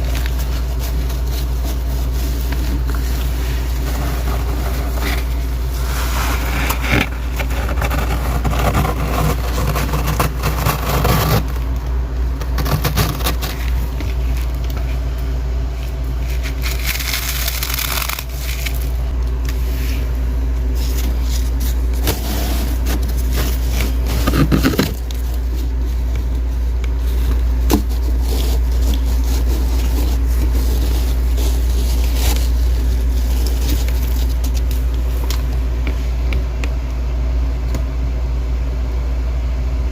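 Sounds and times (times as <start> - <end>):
freezer frost crunching and scraping: 0.0 - 36.9
steady low hum: 0.0 - 39.9.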